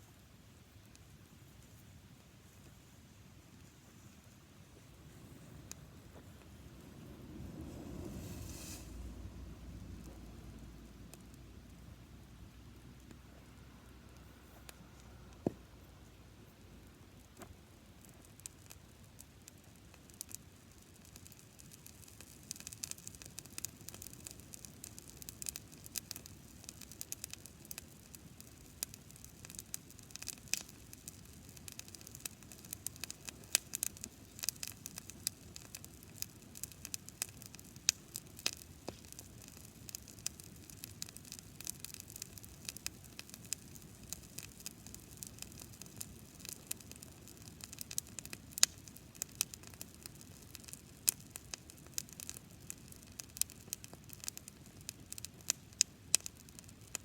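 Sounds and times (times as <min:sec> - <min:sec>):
low hiss: 0:00.0 - 0:57.0
campfire crackling and popping: 0:00.2 - 0:57.0.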